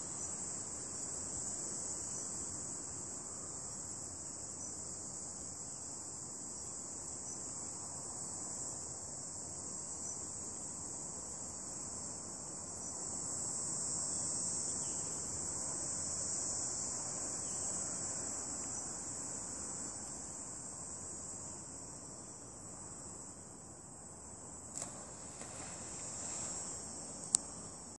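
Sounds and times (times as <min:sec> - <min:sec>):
insects chirring: 0:00.0 - 0:27.9
low outdoor hiss: 0:00.0 - 0:27.9.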